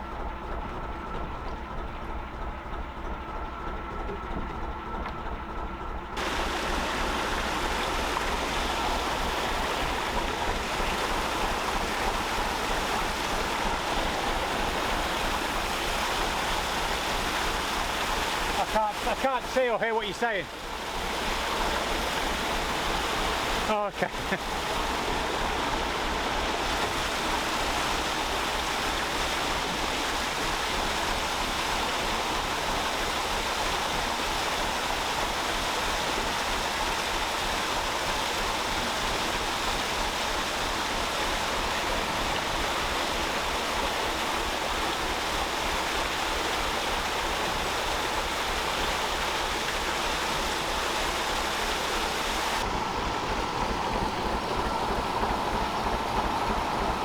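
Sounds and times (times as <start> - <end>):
diesel engine ticking over: 0.0 - 51.6, 52.2 - 57.0
water rushing through lock paddles: 0.0 - 57.0.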